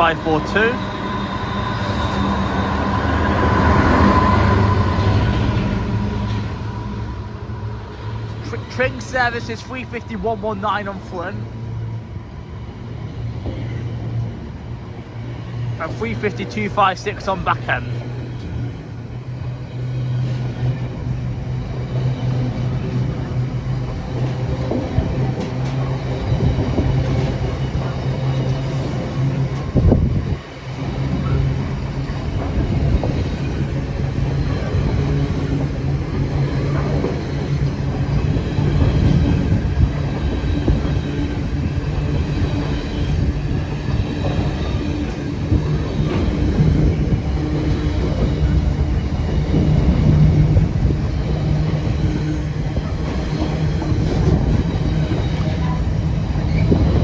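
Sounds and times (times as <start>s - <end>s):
diesel locomotive: 0.0s - 57.0s
wagons rumbling over rails: 0.0s - 57.0s.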